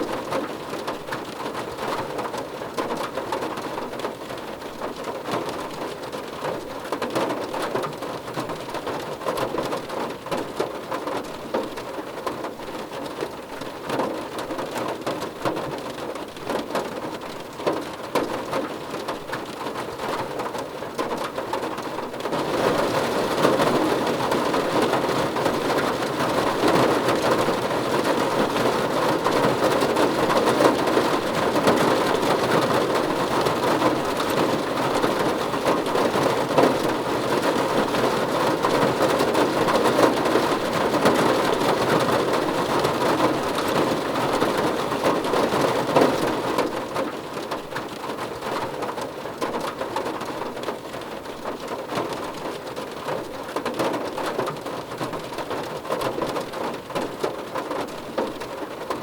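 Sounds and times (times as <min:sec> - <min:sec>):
rain on a car roof: 0:00.0 - 0:59.0.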